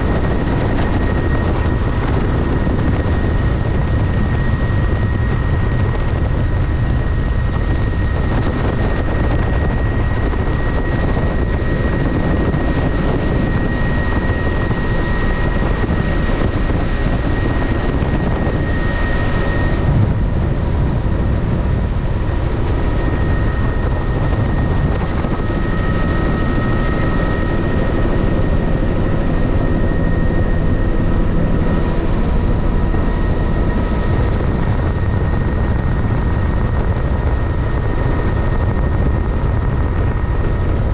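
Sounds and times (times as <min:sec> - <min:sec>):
helicopter cabin rotor noise: 0:00.0 - 0:40.9.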